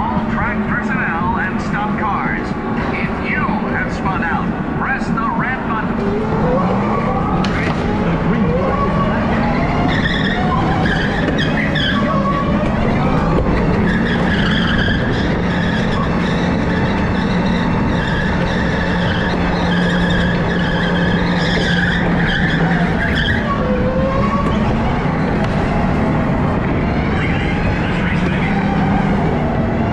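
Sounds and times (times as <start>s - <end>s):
tyres squealing: 0.4s - 29.9s
electric go-kart motor whining: 5.9s - 29.9s.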